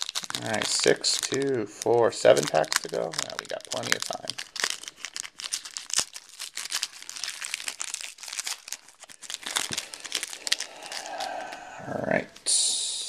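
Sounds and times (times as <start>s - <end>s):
foil wrapper tearing and crinkling: 0.0s - 11.6s.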